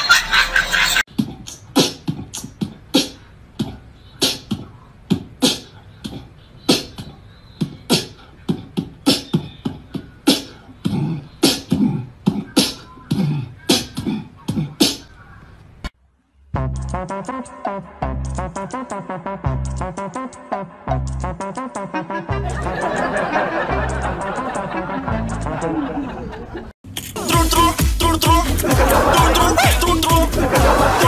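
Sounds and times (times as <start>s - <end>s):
beatbox vocal percussion: 1.1s - 15.2s, 16.6s - 25.9s, 27.0s - 31.0s.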